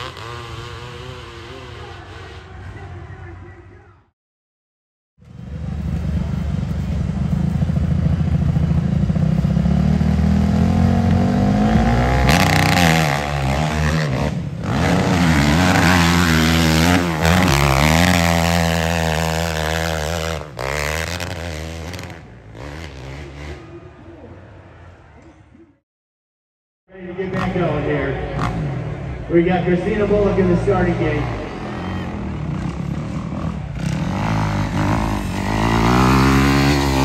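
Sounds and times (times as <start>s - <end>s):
dirt bike engine revving: 0.0s - 3.3s, 5.2s - 23.8s, 27.0s - 37.0s.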